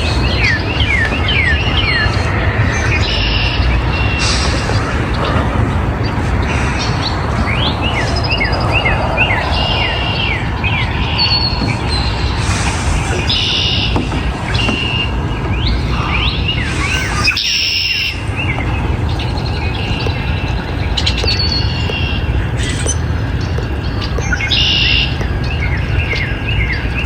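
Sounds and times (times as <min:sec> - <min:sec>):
birds chirping: 0:00.0 - 0:27.0
buzzy bird calls: 0:00.0 - 0:27.0
low rumbling noise: 0:00.0 - 0:27.0.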